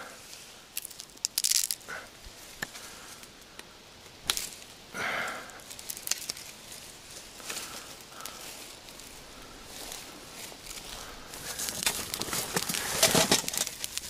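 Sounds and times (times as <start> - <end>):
camp gear rustling: 0.1 - 14.0
twigs snapping: 0.3 - 4.8, 5.6 - 14.0.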